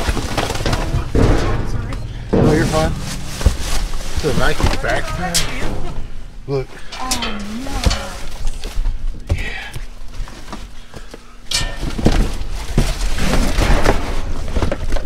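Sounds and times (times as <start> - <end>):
rustling in dumpster: 0.0 - 15.0.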